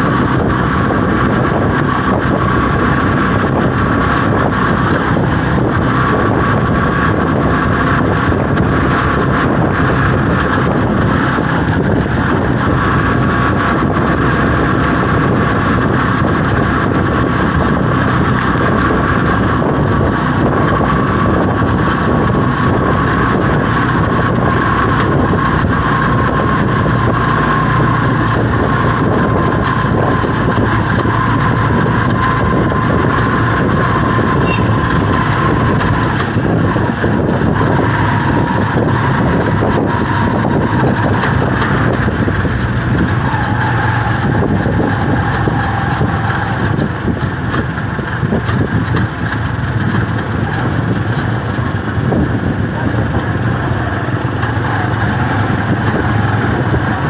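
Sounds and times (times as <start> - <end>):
road noise: 0.0 - 57.0
steady high whine: 0.0 - 57.0
vehicle engine drone: 0.0 - 57.0.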